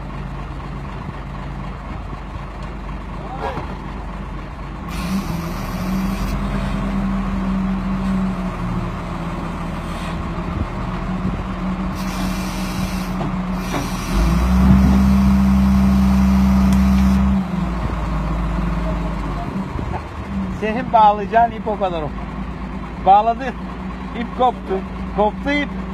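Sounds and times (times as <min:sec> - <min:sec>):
crane engine running: 0:00.0 - 0:25.9.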